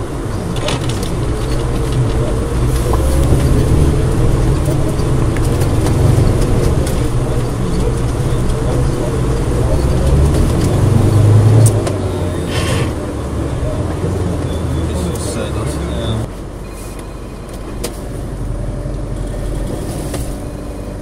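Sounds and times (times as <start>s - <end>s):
vehicle engine running hard: 0.0s - 21.0s.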